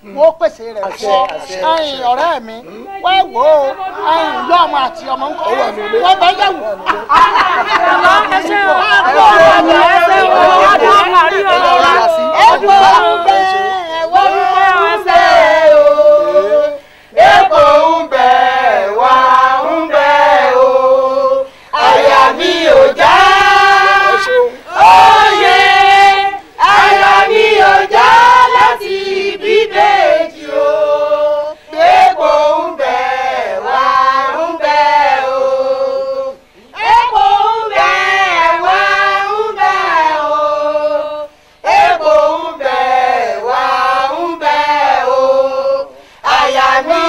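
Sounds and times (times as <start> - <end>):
group singing: 0.9 - 47.0.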